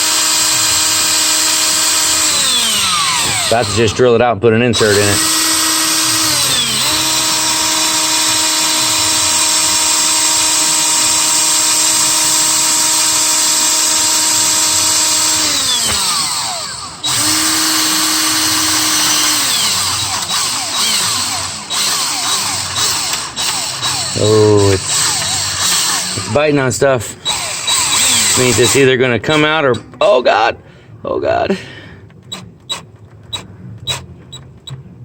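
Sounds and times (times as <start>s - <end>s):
electric drill motor whine: 0.0s - 4.2s, 4.8s - 26.6s, 27.2s - 29.4s.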